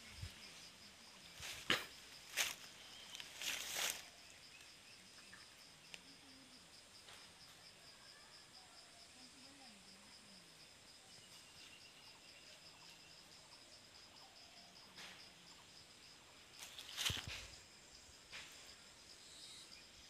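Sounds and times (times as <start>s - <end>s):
insect chirping: 0.0s - 20.0s.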